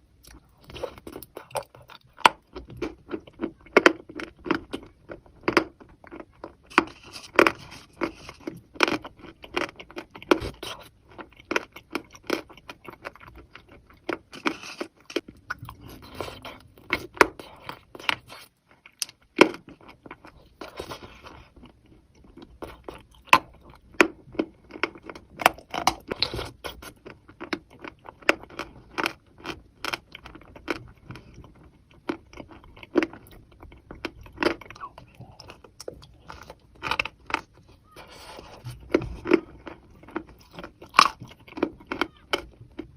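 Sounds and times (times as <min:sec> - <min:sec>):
chewing and crunching chalk: 0:00.2 - 0:42.9.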